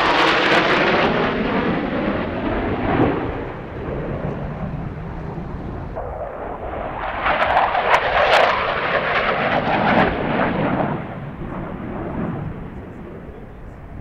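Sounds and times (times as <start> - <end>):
jet aircraft roaring past: 0.0 - 14.0.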